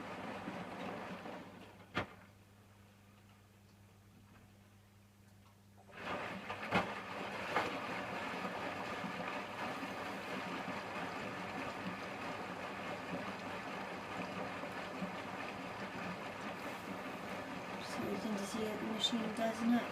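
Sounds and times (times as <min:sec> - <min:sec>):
washing machine water rushing: 0:00.0 - 0:02.2, 0:05.8 - 0:19.9.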